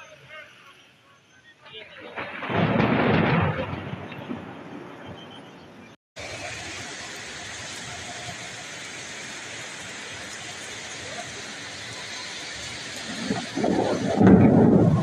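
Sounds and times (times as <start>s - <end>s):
heavy rain: 2.0s - 15.0s.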